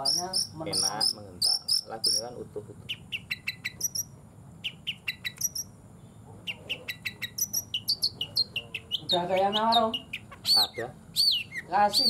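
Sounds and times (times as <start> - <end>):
bird singing sharp chirps: 0.0 - 12.0.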